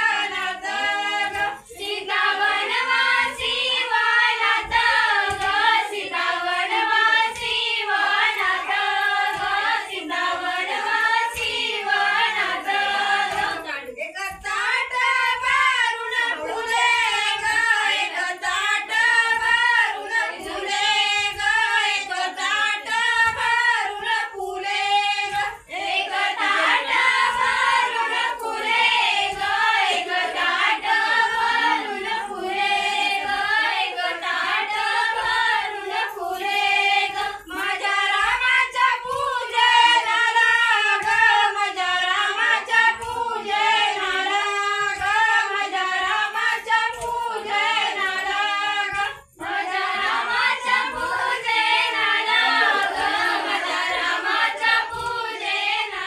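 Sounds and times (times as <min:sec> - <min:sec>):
women and girls singing: 0:00.0 - 0:56.0.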